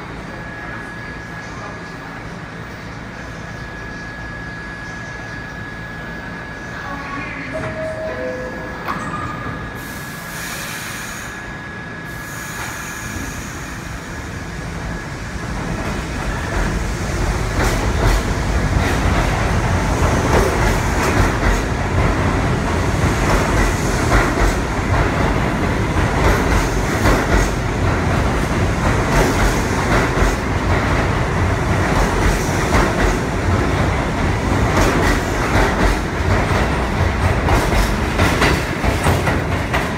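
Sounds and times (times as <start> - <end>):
subway train rumbling: 0.0 - 39.9.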